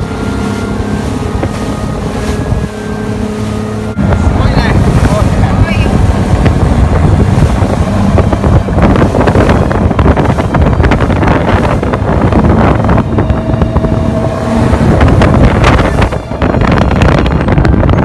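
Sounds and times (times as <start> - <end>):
boat engine humming: 0.0 - 18.0
wind buffeting microphone: 0.0 - 18.0.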